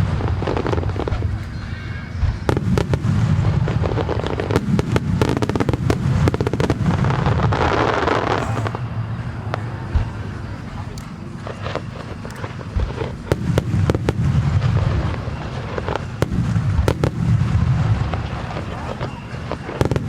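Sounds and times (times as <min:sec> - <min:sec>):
heavy low rumble: 0:00.0 - 0:20.0.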